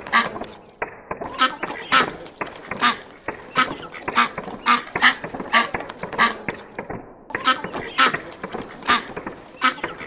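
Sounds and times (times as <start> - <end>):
duck quacking: 0.0 - 0.7, 1.3 - 10.0.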